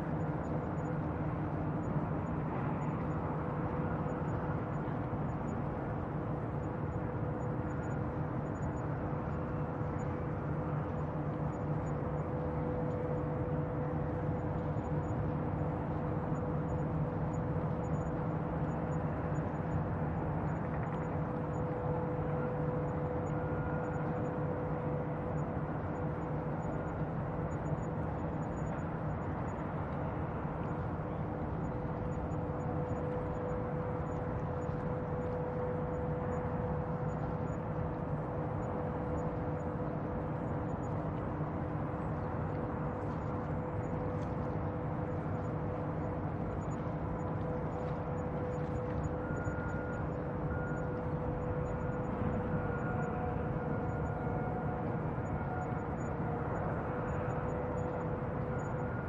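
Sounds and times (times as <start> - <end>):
droning hum: 0.0 - 59.0.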